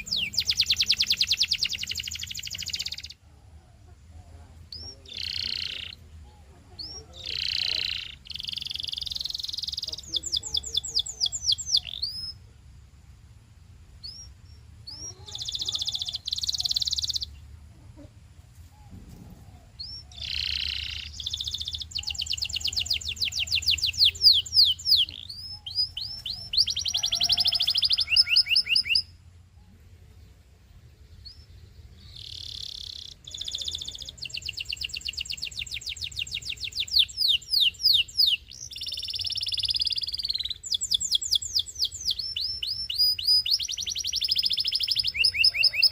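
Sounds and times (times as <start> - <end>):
canary singing trills: 0.0 - 12.6, 14.0 - 18.1, 18.8 - 45.9.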